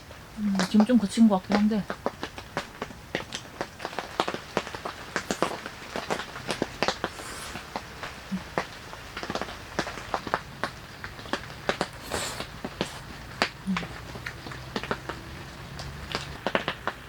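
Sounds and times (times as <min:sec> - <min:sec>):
rain hiss: 0:00.0 - 0:17.0
raindrops tapping on tent fabric: 0:00.0 - 0:17.0.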